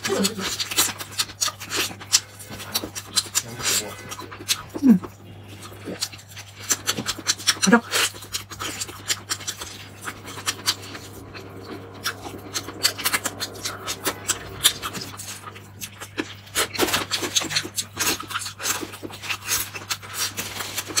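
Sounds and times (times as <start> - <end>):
chewing with wet mouth clicks: 0.0 - 21.0
low steady hum: 0.0 - 21.0.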